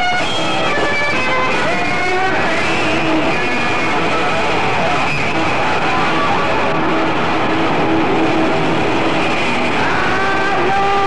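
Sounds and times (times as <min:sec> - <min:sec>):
held guitar notes: 0:00.0 - 0:11.0
live heavy metal band: 0:00.0 - 0:11.0.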